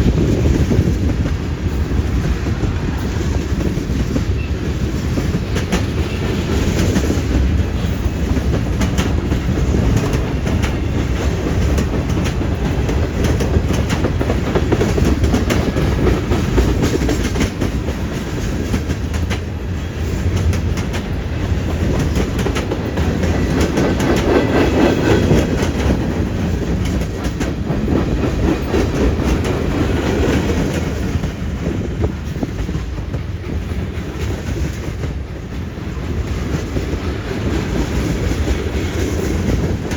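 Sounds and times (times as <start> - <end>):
freight train rumbling past: 0.0 - 39.9
wheels clacking over track joints: 0.4 - 39.9.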